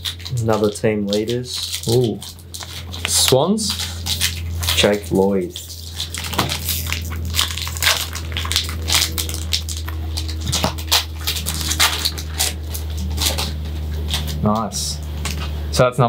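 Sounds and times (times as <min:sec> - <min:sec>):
foil wrappers crinkling: 0:00.0 - 0:15.8
steady low hum: 0:00.0 - 0:16.0.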